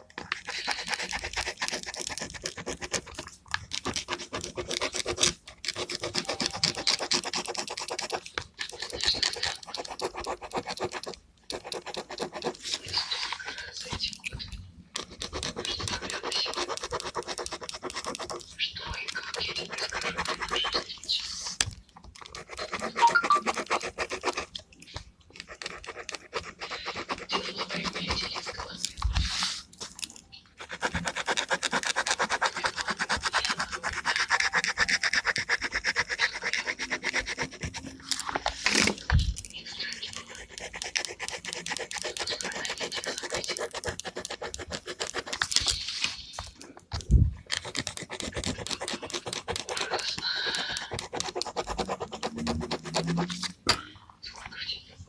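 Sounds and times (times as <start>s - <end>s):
gel pen rubbing on paper: 0.1s - 14.4s, 15.0s - 29.7s, 30.6s - 46.6s, 47.2s - 53.6s.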